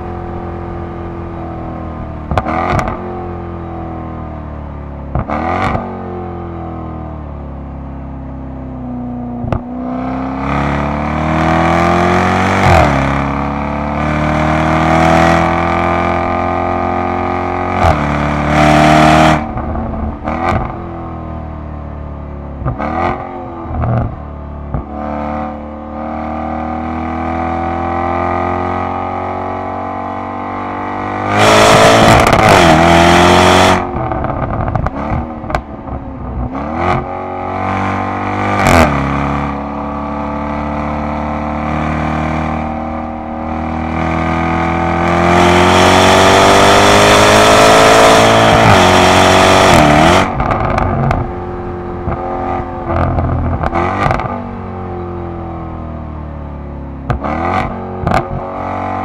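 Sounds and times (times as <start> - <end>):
exhaust cracks and blips: 0.0 - 3.8, 4.5 - 6.1, 9.4 - 27.3, 30.7 - 59.0
car engine accelerating: 0.0 - 59.0.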